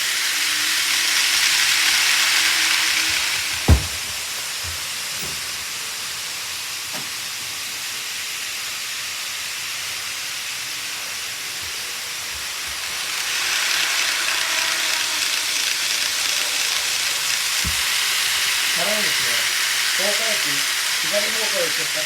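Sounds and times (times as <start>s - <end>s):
model trains hissing on track: 0.0s - 22.0s.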